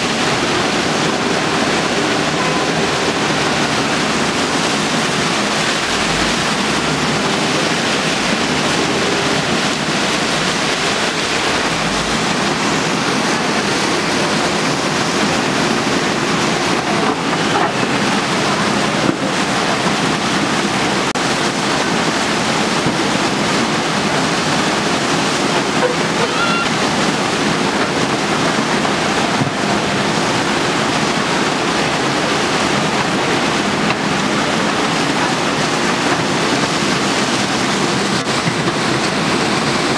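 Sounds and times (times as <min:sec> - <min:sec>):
flood water rushing: 0:00.0 - 0:39.9.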